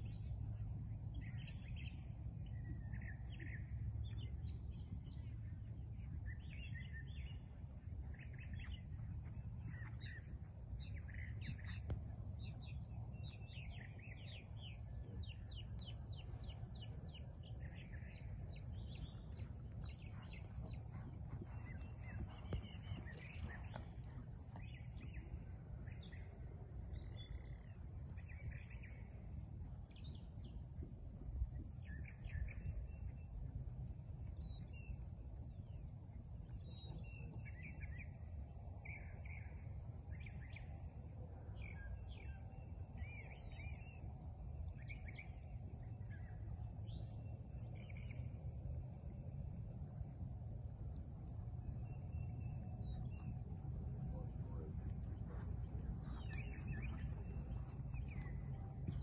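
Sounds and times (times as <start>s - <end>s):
low outdoor rumble: 0.0s - 59.0s
songbirds chirping: 0.0s - 59.0s.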